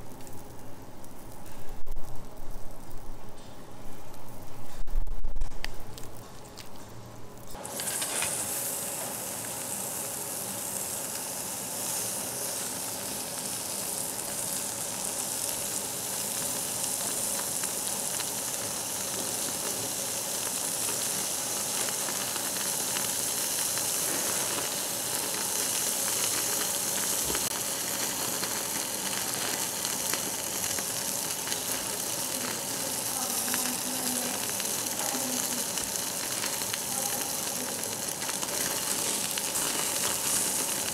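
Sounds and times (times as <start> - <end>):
meat sizzling on grill: 7.4 - 40.9.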